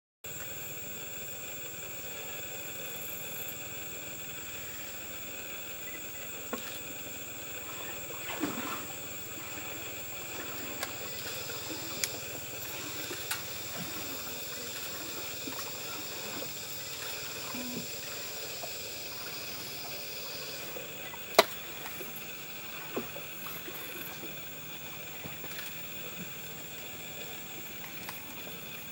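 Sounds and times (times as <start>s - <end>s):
insect chorus drones: 0.3s - 28.9s.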